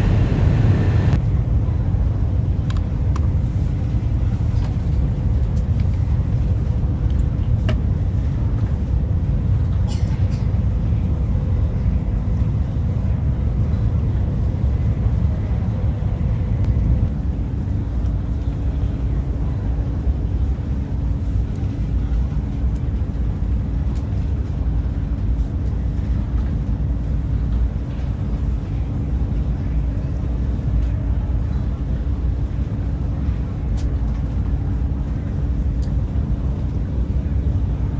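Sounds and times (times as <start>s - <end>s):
train cabin rumble: 0.0s - 37.9s.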